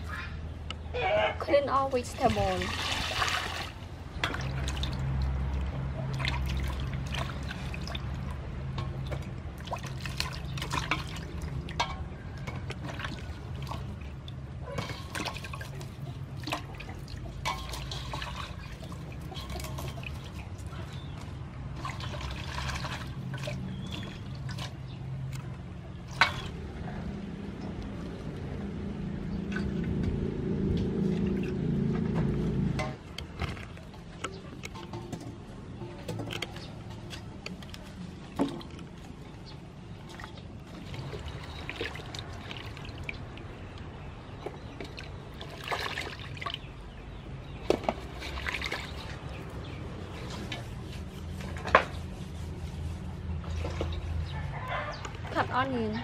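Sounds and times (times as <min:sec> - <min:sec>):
water splashing in basin: 0:01.9 - 0:26.8, 0:30.8 - 0:51.7.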